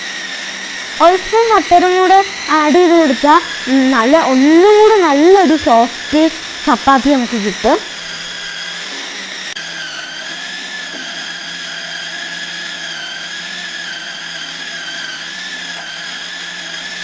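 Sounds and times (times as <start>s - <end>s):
mixer grinder motor whining: 0.0s - 17.0s.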